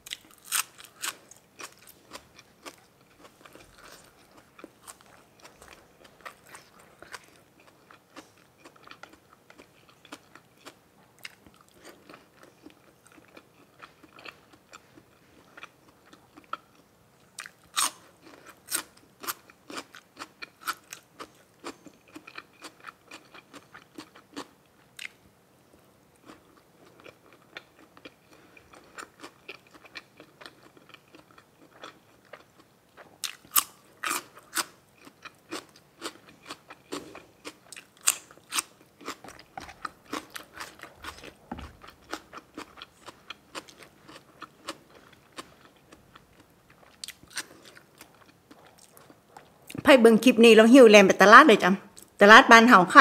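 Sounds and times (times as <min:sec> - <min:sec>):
person chewing with crunches: 0:00.0 - 0:25.2, 0:26.2 - 0:49.8.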